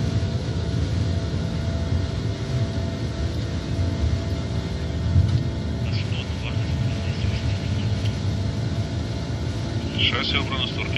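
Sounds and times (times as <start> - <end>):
jet engines rumbling in cockpit: 0.0 - 10.9
steady engine tones: 0.0 - 10.9.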